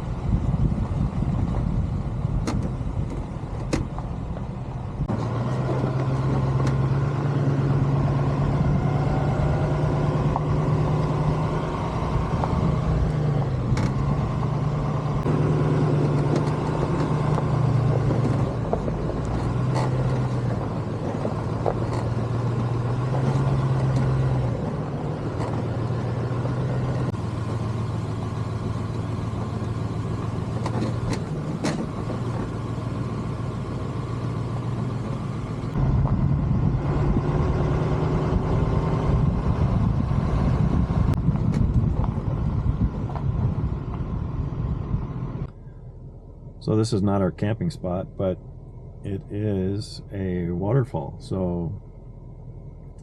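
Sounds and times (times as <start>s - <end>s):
road noise: 0.0s - 53.0s
truck engine drone: 0.0s - 53.0s.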